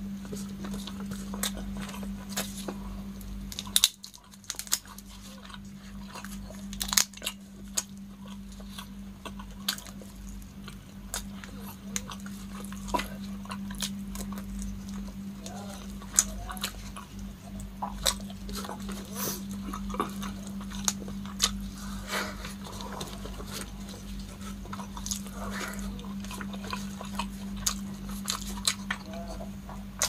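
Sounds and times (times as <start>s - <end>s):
low hum: 0.0s - 30.0s
chewing: 0.1s - 30.0s
prawn shells crunching: 0.3s - 30.0s.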